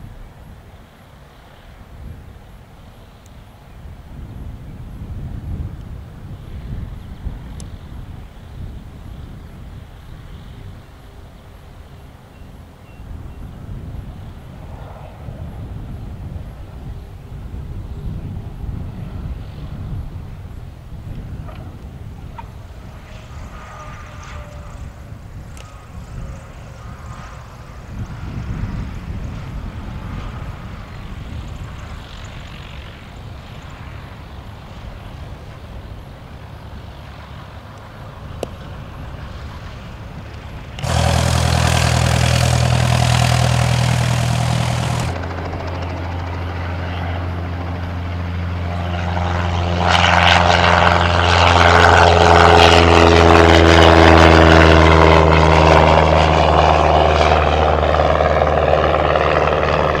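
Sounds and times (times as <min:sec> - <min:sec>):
propeller plane engine droning: 0:00.0 - 1:00.0.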